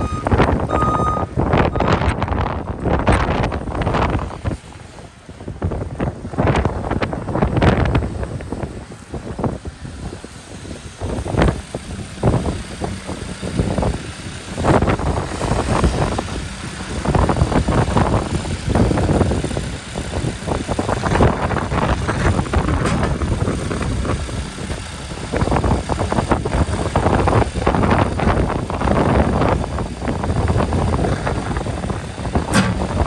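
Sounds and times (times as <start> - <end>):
diesel engine running: 0.0 - 33.0
wind buffeting microphone: 0.0 - 33.0.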